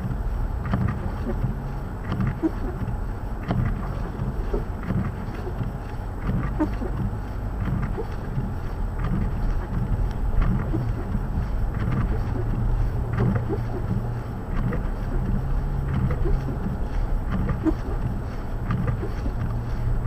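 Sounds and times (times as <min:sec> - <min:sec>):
vehicle engine running: 0:00.0 - 0:20.0
wind rumble on microphone: 0:00.0 - 0:20.0.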